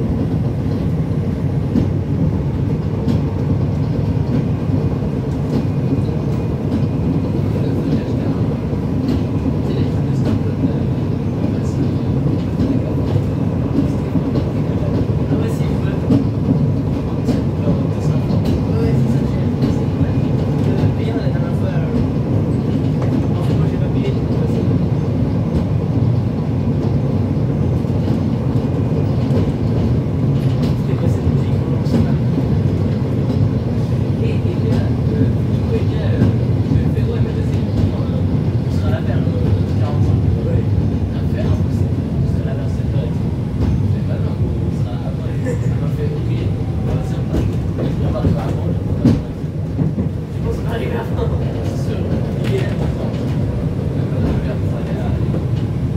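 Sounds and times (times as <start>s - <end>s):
tram low rumble: 0.0s - 55.9s.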